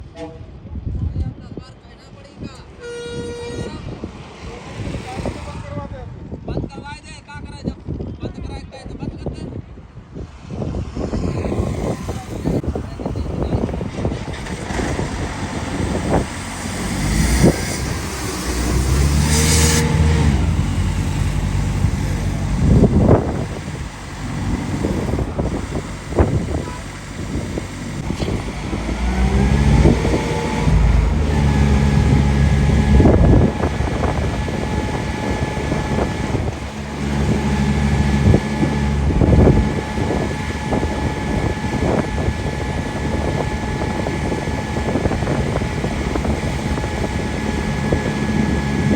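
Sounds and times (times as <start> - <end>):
heavy engines revving: 2.7 - 6.3, 10.5 - 48.9.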